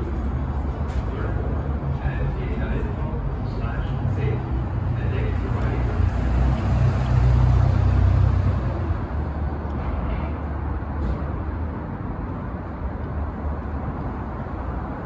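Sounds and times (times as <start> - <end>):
subway train rumbling on steel: 0.0 - 15.0.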